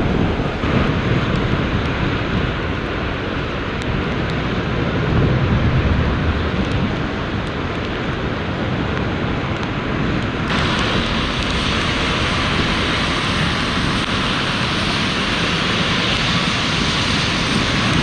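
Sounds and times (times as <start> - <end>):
airliner jet engine: 0.0 - 18.0
wind buffeting microphone: 0.0 - 18.0.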